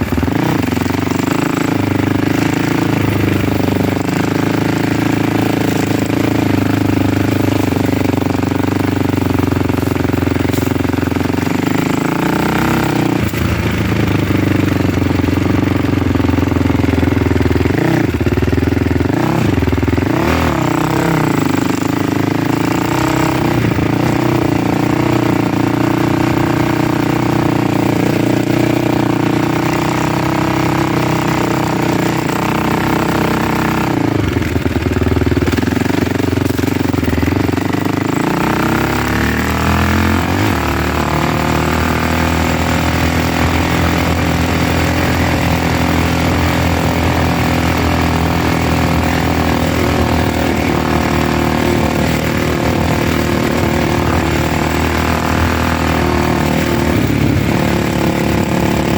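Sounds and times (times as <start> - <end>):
motor vehicle engine running: 0.0 - 58.9.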